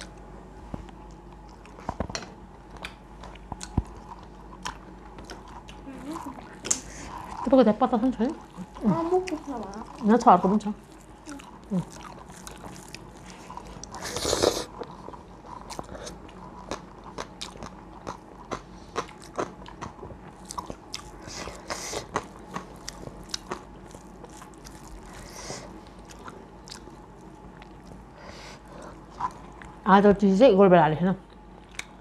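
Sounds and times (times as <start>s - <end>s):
chewing and crunching food: 0.0s - 29.8s, 31.3s - 32.0s.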